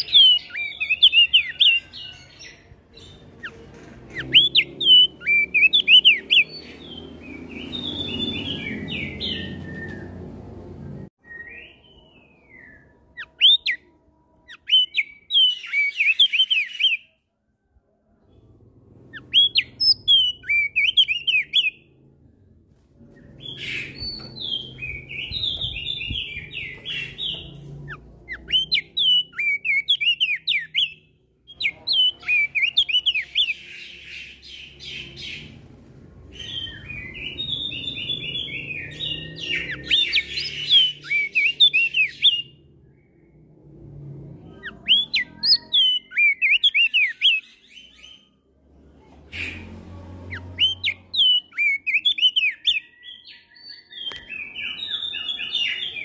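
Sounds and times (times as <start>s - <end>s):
small songbirds chirping: 0.0s - 17.2s, 18.2s - 22.0s, 23.0s - 48.5s, 49.4s - 56.0s.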